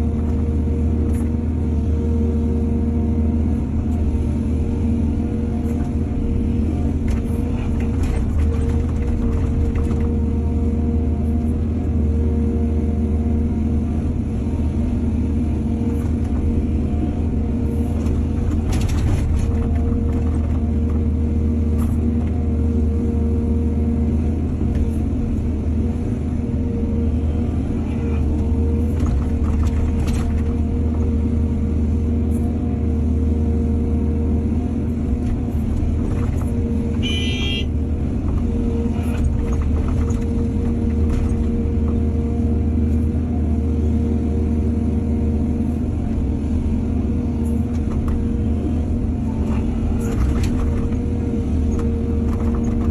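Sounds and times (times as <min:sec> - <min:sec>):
heavy machinery diesel engine: 0:00.0 - 0:52.9.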